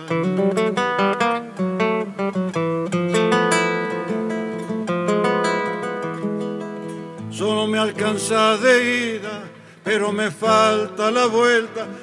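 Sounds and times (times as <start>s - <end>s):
classical guitar fingerpicking: 0.0s - 12.0s.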